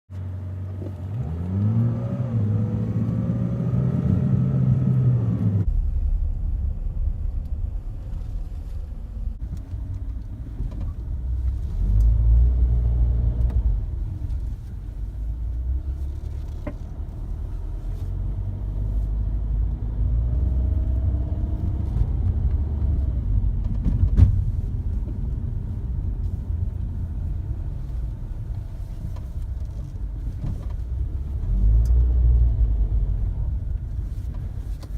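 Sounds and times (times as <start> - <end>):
car engine: 0.1 - 34.9
low rumble: 1.8 - 34.9.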